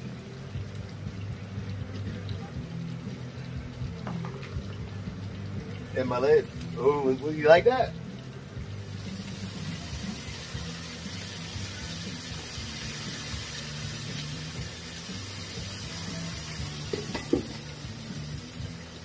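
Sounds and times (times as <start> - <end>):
water sizzling on hot griddle: 0.0 - 19.0.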